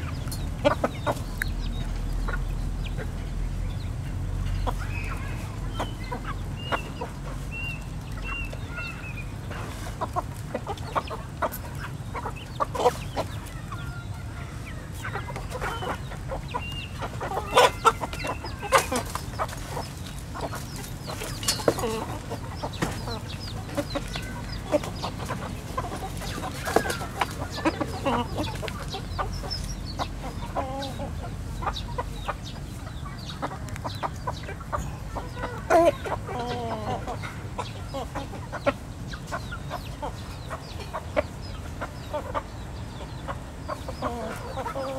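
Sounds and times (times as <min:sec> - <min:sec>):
chickens clucking: 0:00.0 - 0:44.9
chicks peeping: 0:00.0 - 0:44.9.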